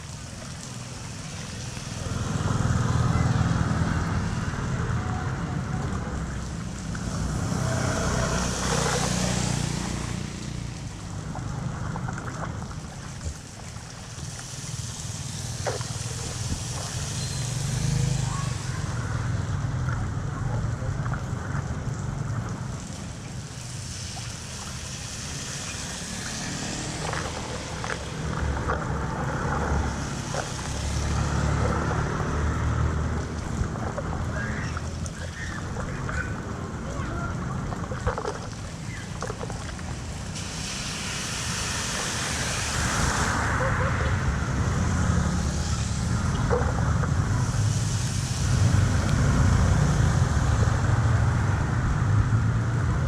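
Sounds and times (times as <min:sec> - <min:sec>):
floodwater rushing and splashing: 0:00.0 - 0:53.0.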